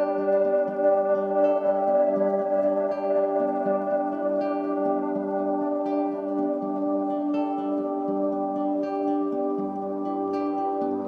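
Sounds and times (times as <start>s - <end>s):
ambient music with sustained notes: 0.0s - 11.0s.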